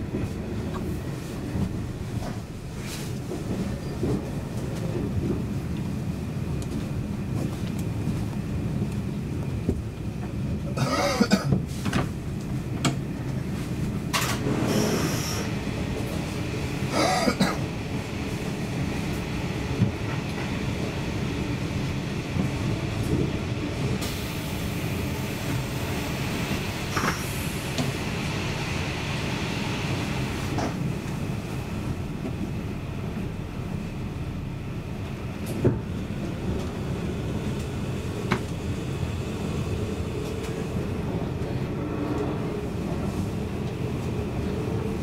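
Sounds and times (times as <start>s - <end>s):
train wheels rumbling on track: 0.0s - 45.0s.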